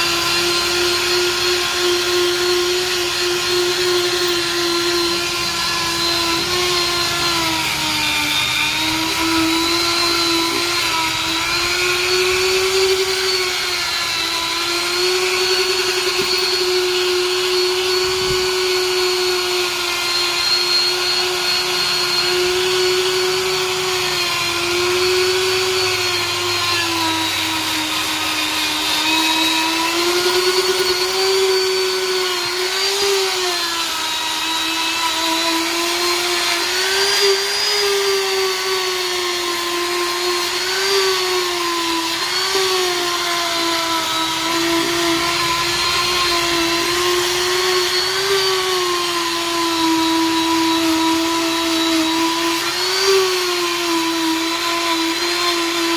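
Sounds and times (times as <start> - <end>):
die grinder high whine: 0.0 - 55.9.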